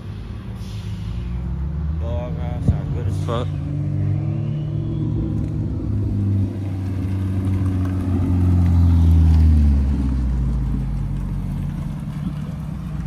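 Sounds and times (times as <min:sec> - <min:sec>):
car driving past: 0:00.2 - 0:13.0.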